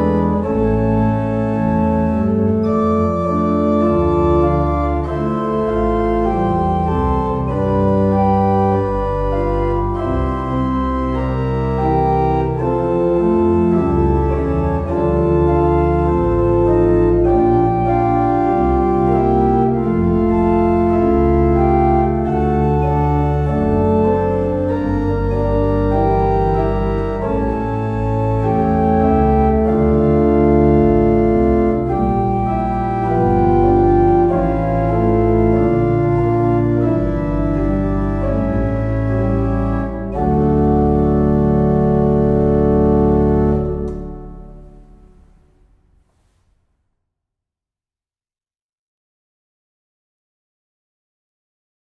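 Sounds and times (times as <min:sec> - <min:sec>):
organ playing sustained chords: 0:00.0 - 0:45.7.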